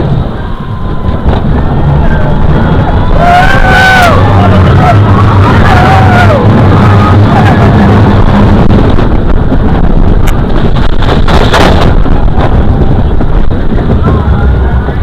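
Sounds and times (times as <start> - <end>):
roller coaster wheels rumbling: 0.0 - 15.0
wind buffeting microphone: 0.0 - 15.0.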